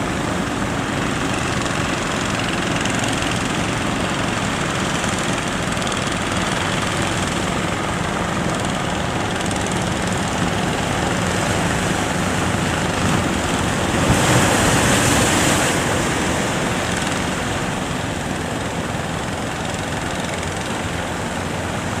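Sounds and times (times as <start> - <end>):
boat engine droning: 0.0 - 22.0
sea noise rushing: 0.0 - 22.0.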